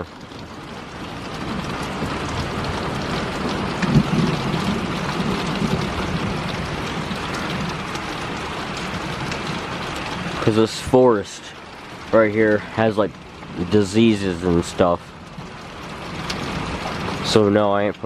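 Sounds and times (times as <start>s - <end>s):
heavy rain pouring: 0.0s - 18.0s
thunder rumble: 0.0s - 18.0s.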